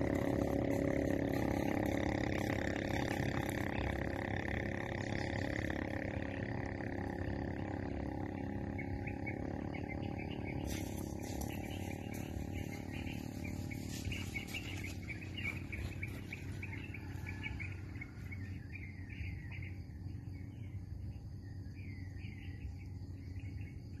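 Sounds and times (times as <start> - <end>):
low steady hum: 0.0 - 24.0
small birds chirping: 0.0 - 24.0.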